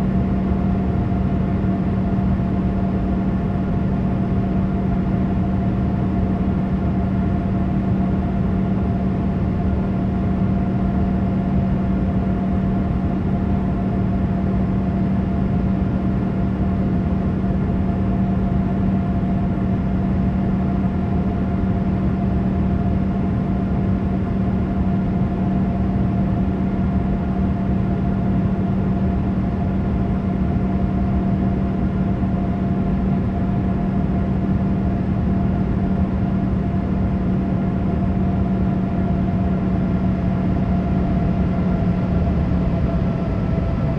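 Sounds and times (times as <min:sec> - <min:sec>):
engine and airflow rush: 0:00.0 - 0:43.9
low hum: 0:00.0 - 0:43.9.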